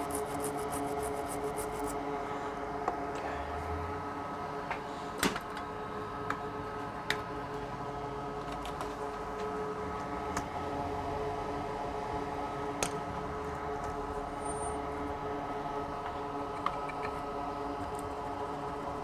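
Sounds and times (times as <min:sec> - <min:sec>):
workbench equipment humming: 0:00.0 - 0:19.0.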